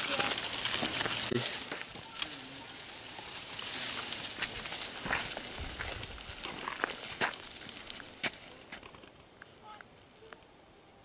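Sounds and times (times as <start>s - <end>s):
dry leaves rustling and crackling: 0.0s - 9.4s.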